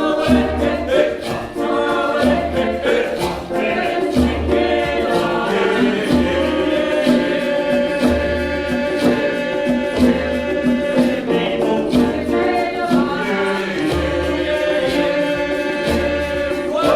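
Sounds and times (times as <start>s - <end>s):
choir singing in harmony: 0.0s - 16.9s.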